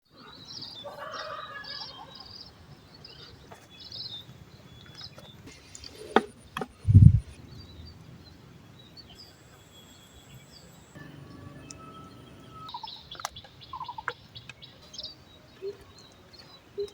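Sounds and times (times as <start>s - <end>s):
outdoor background noise: 0.0s - 16.9s
small birds chirping: 0.1s - 16.9s.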